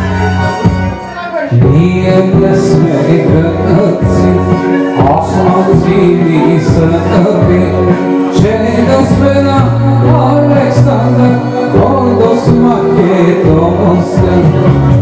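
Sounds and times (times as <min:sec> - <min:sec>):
instrumental accompaniment: 0:00.0 - 0:15.0
man singing into a microphone: 0:01.0 - 0:15.0.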